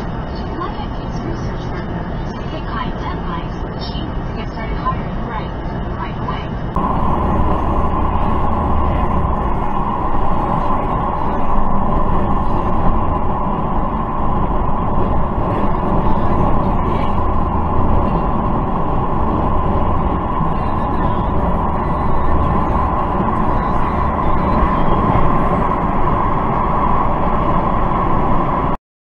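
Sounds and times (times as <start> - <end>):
low engine rumble: 0.0 - 28.8
road noise: 0.0 - 28.8
wind noise: 5.5 - 28.8.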